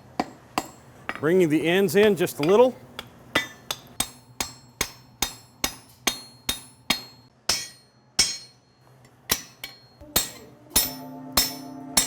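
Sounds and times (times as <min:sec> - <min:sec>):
hammer striking steel on anvil: 0:00.2 - 0:01.3, 0:02.4 - 0:12.0.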